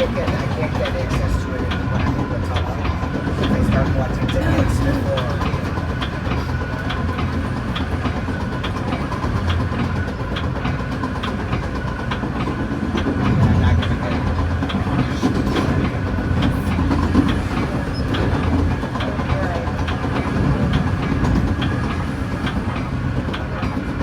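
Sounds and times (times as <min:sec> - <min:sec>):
train rumbling: 0:00.0 - 0:24.0
train wheels clicking on rail joints: 0:00.0 - 0:24.0.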